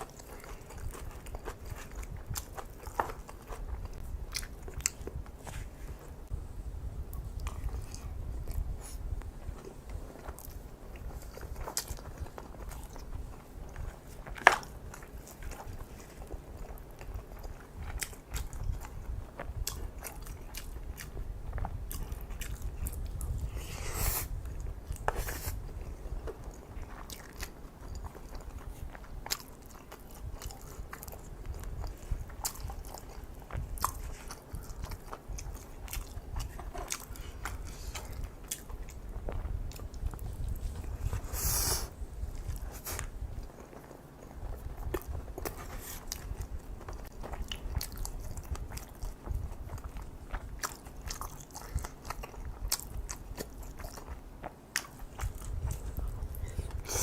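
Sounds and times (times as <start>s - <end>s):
close chewing with crunchy bites: 0.0s - 57.0s.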